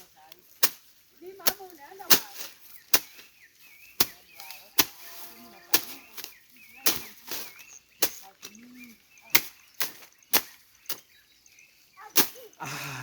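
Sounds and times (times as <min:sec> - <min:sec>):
slasher chopping vegetation: 0:00.0 - 0:11.3, 0:12.0 - 0:13.0.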